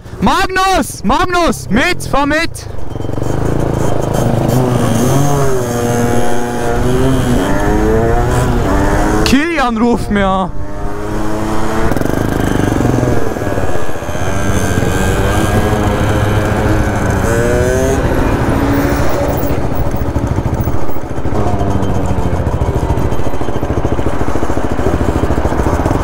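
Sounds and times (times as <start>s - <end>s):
moped engines revving: 0.0s - 26.0s
wind and road noise: 0.0s - 26.0s.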